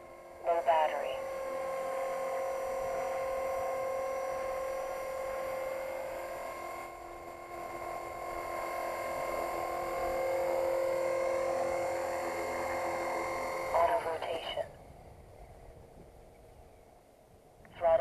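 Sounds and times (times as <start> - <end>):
rc helicopter motor whine: 0.0 - 16.8.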